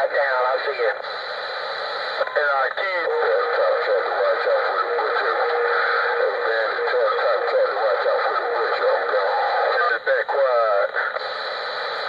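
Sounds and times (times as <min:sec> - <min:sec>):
garbled radio transmissions: 0:00.0 - 0:12.0
steady radio tone: 0:00.0 - 0:12.0.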